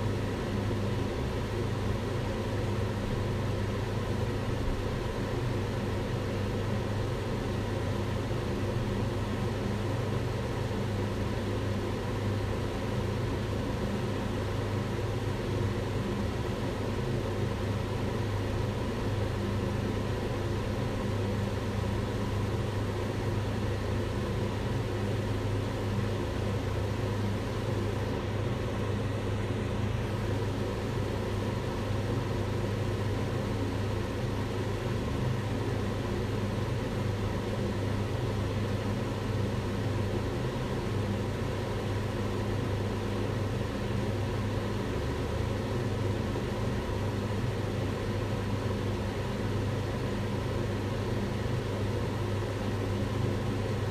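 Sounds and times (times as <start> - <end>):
extractor fan humming: 0.0 - 53.9.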